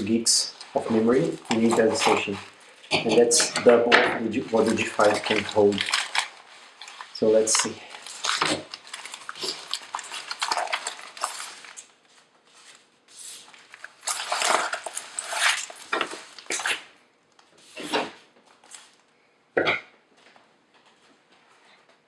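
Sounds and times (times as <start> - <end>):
packaging rustling and scraping: 0.0 - 2.9, 3.6 - 19.0.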